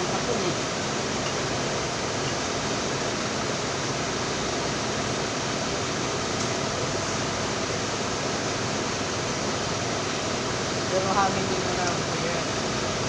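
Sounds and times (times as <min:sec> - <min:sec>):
electric fan air rushing: 0:00.0 - 0:13.0.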